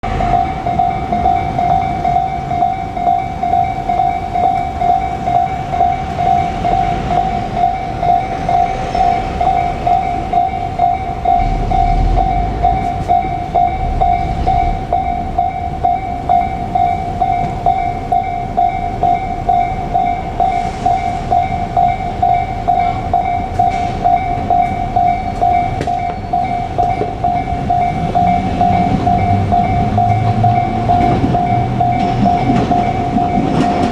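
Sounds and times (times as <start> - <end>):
level-crossing bell clanging: 0.0 - 33.9
train rumble and wheel clatter: 0.0 - 33.9.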